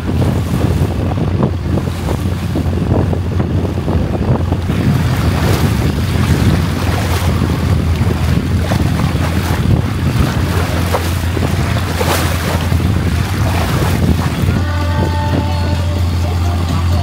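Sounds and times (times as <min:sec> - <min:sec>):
water rushing past: 0:00.0 - 0:15.2
boat motor droning: 0:00.0 - 0:17.0
wind buffeting microphone: 0:00.0 - 0:17.0.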